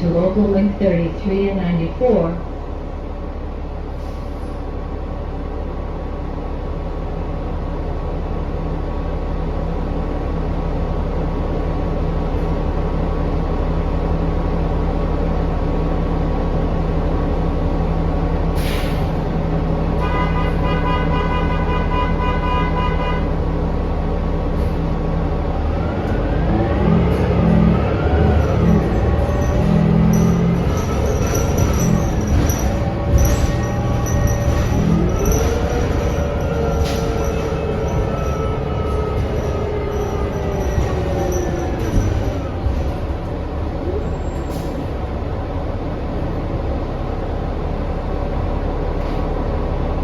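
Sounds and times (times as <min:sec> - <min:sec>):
bus engine drone: 0:00.0 - 0:50.0.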